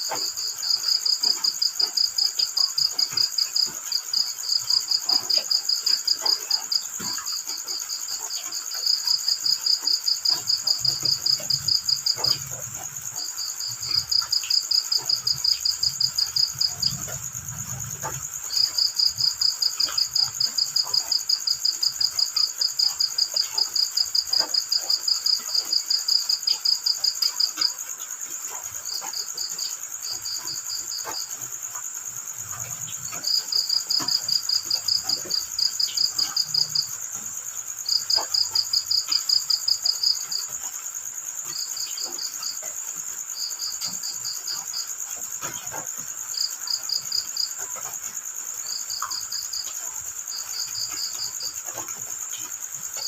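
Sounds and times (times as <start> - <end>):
cricket chirping: 0.0 - 53.0
high insect drone: 0.0 - 53.0.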